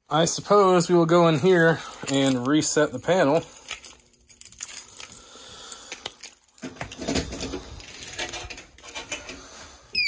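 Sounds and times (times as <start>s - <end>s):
keys jingling: 0.5s - 8.9s.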